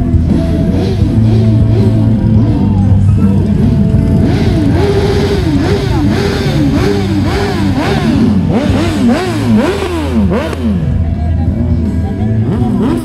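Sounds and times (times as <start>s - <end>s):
motorcycles revving past: 0.3s - 11.0s.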